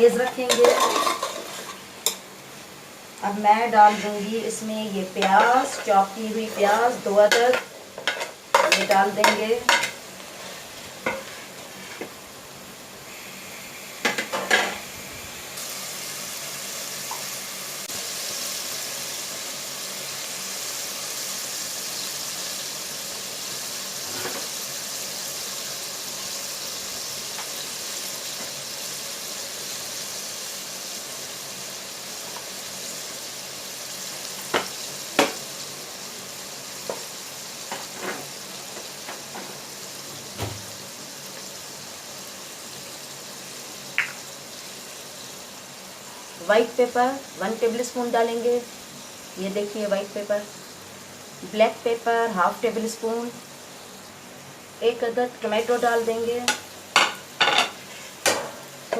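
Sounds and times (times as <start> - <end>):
food sizzling in oil: 0.0 - 58.9.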